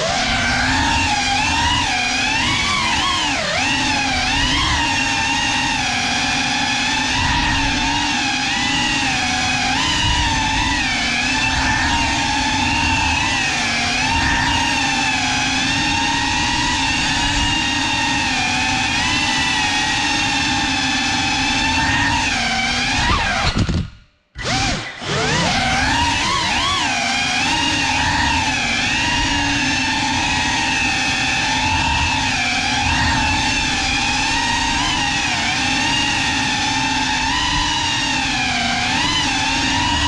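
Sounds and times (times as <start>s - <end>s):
drone motors whining: 0.0s - 40.0s.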